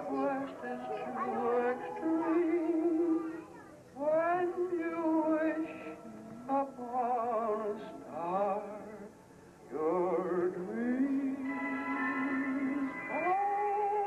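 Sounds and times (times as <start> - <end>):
person singing: 0.0 - 14.0.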